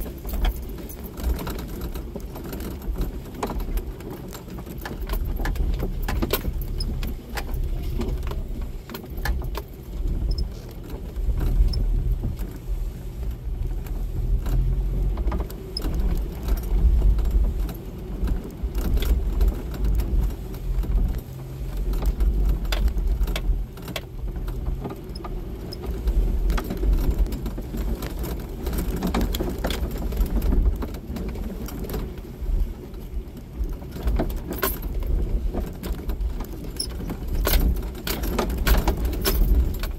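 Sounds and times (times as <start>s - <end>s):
car body rattling: 0.0s - 39.9s
car engine running low: 0.0s - 39.9s.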